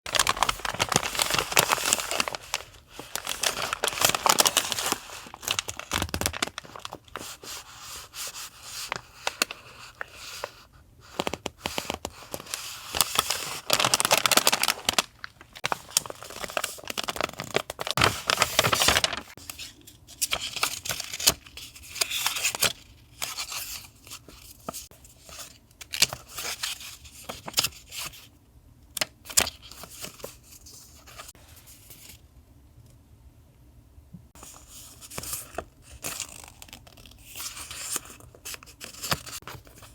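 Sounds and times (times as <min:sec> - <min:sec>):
paper crinkling and tearing: 0:00.1 - 0:10.5, 0:11.1 - 0:28.2, 0:34.4 - 0:39.9.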